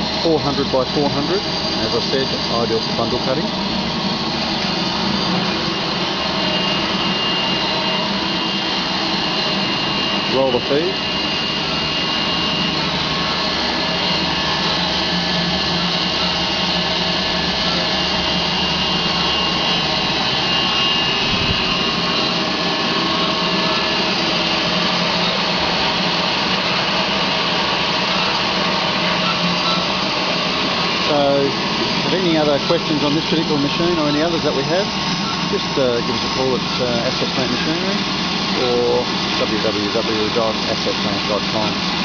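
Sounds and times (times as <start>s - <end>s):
faint high whine: 0.0s - 42.0s.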